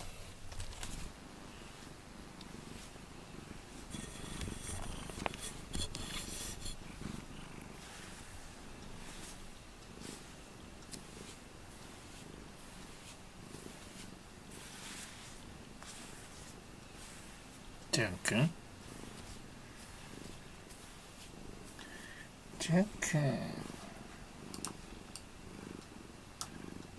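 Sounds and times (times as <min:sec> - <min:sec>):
rustling: 0:00.0 - 0:24.3
cat purring: 0:00.0 - 0:26.9.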